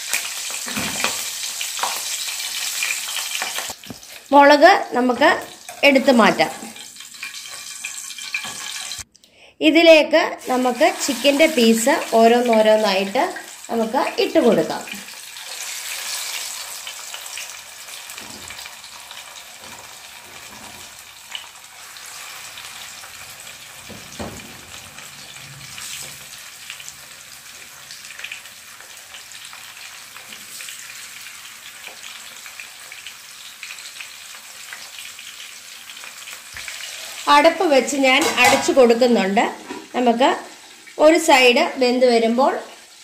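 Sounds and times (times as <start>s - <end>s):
chicken sizzling in hot oil: 0.0s - 4.3s, 5.3s - 9.1s, 10.4s - 43.0s.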